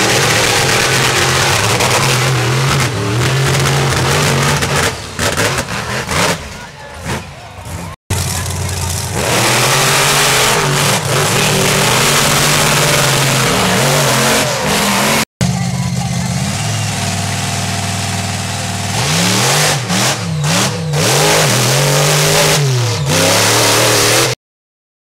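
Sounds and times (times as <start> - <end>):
truck engines revving: 0.0 - 24.4.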